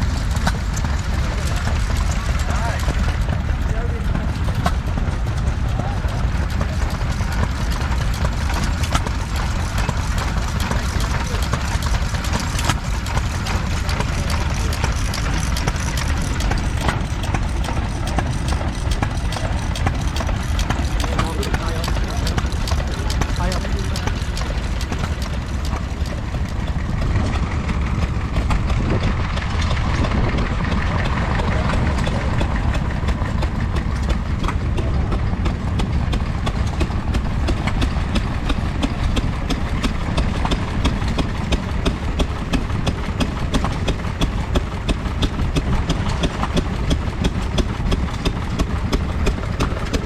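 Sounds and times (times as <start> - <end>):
stationary engine running: 0.0 - 50.0.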